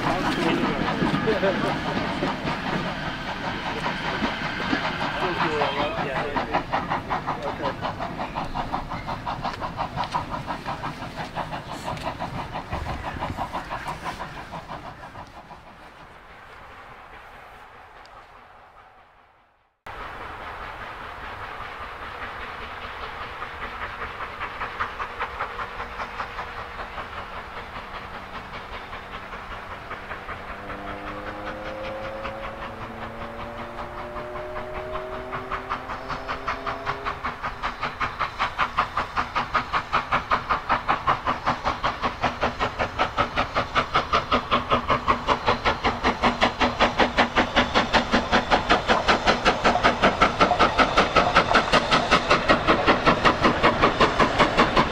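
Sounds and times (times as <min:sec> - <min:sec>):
steam locomotive chuffing: 0:00.0 - 0:54.9.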